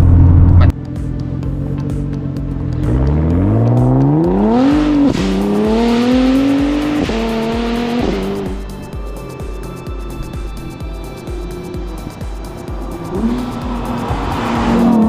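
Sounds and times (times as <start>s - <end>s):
car engine accelerating: 0.0s - 15.0s
background music with beat: 0.7s - 15.0s.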